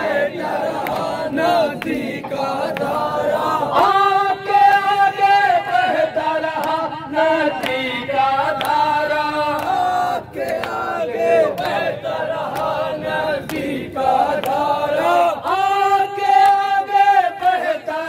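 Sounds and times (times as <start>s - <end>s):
men chanting into microphones: 0.0s - 18.0s.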